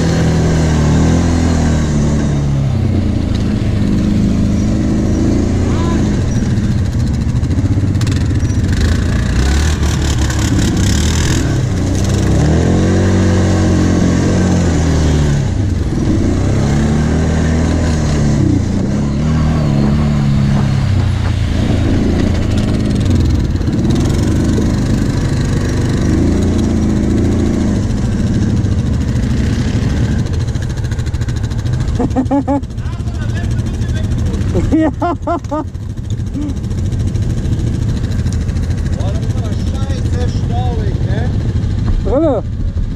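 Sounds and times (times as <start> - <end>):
atv engine revving: 0.0 - 42.9.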